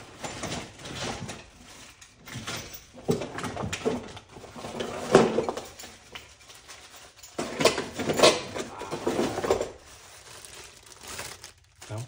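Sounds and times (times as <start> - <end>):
objects clattering and rustling: 0.0 - 12.0.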